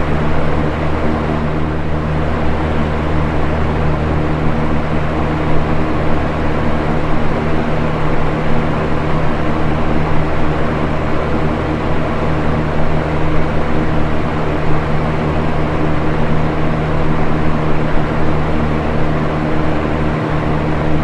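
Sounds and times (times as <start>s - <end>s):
box fan running: 0.0s - 21.0s.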